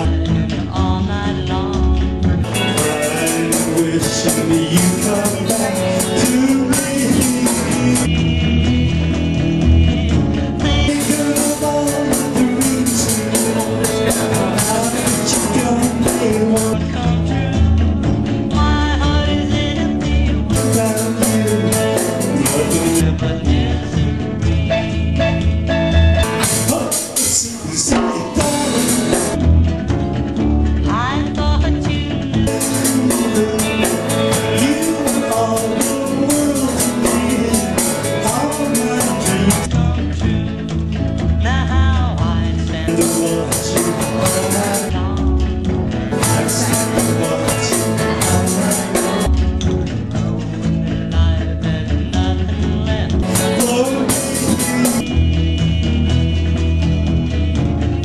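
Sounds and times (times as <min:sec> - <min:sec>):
person singing: 0:00.0 - 0:29.5, 0:30.8 - 0:58.0
drums: 0:00.0 - 0:58.0
electric guitars: 0:00.0 - 0:58.0
live rock band playing: 0:00.0 - 0:58.0.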